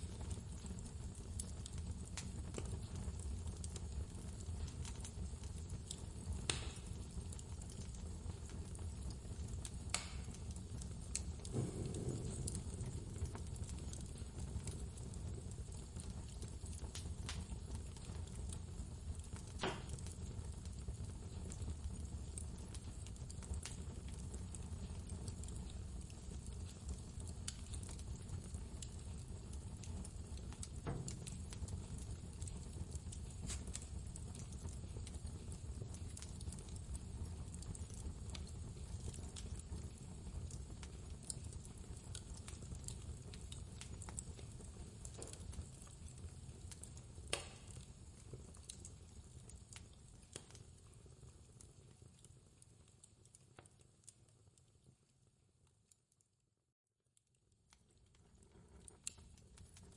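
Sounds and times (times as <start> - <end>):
wood fire crackling: 0.0 - 56.2, 57.2 - 59.9.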